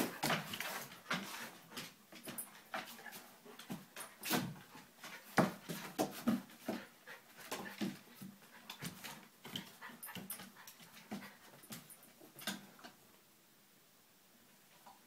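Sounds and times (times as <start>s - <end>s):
scuffling paws on wooden floor: 0.0s - 12.1s.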